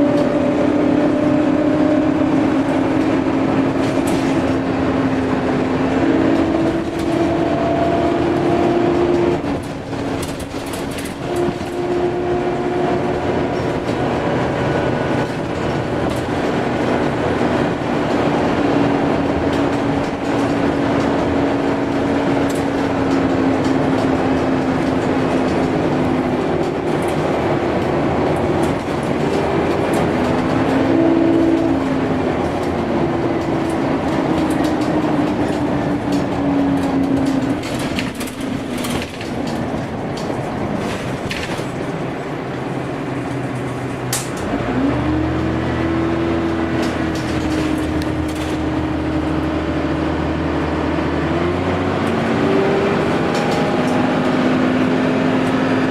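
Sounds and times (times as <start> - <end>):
bus engine hum with whine: 0.0 - 55.9
rattles and clicks: 2.2 - 45.8, 46.4 - 49.9, 51.5 - 55.9.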